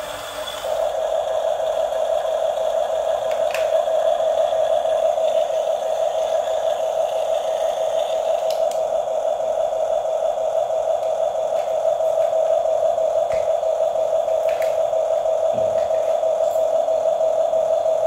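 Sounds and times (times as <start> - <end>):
toy motor and gearbox whine: 0.0 - 18.0.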